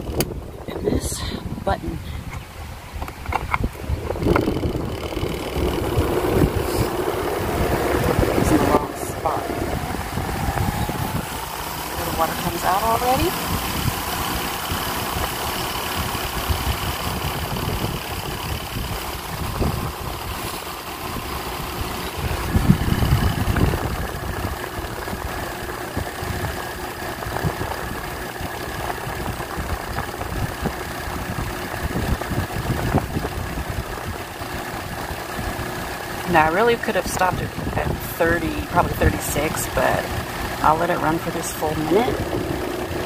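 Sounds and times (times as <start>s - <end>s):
rumble: 0.0s - 43.0s
washing machine spinning: 3.8s - 43.0s.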